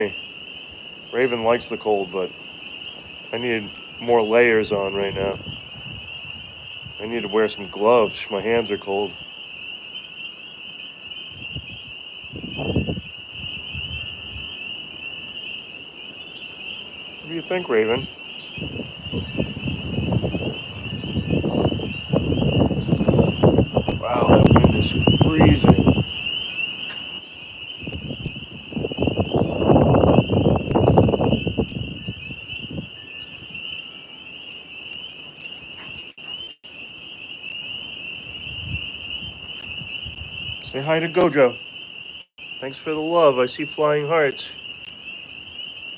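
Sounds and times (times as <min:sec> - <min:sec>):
wind rumbling on microphone: 0:00.0 - 0:09.8, 0:11.1 - 0:42.1
chorus of night animals calling: 0:00.0 - 0:45.9
crickets chirring: 0:00.0 - 0:45.9.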